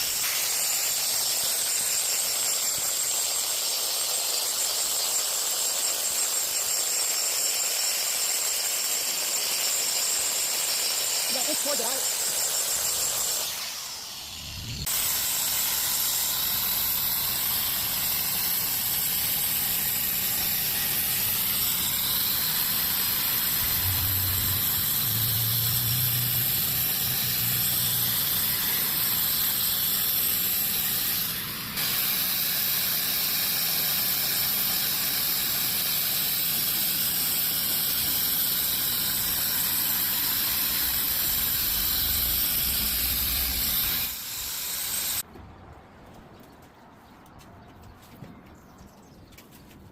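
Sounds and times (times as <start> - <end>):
power polisher on stone: 0.0 - 45.2.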